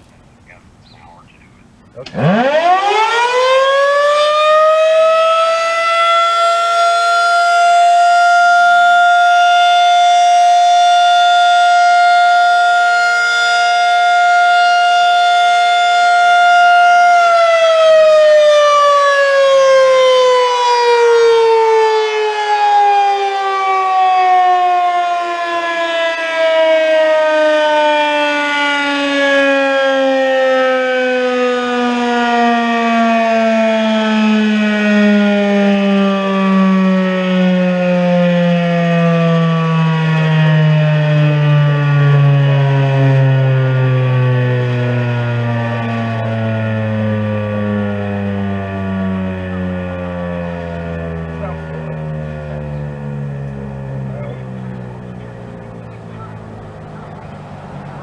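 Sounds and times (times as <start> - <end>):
electromechanical siren: 0.0 - 58.0.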